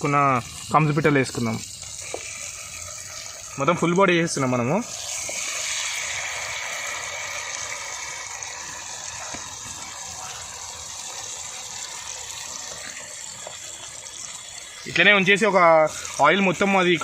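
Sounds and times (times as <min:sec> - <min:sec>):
meat sizzling in hot oil: 0:00.0 - 0:17.0.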